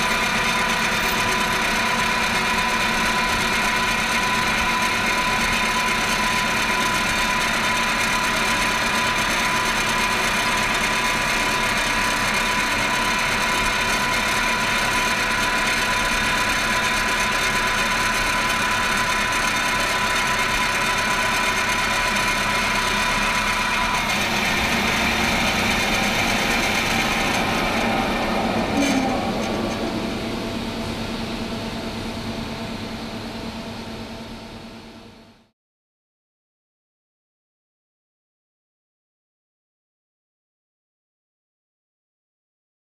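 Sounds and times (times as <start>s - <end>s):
welding machine hum and whirr: 0.0s - 35.4s
steady high whine: 0.0s - 35.5s.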